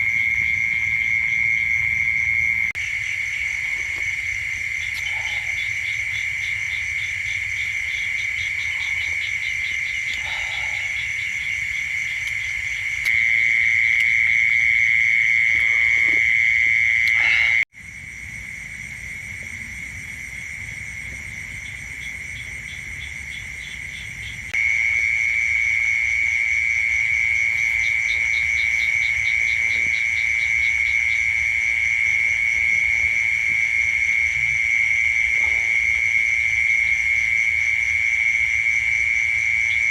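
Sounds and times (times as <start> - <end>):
frogs pulsing calls: 0.0 - 39.9.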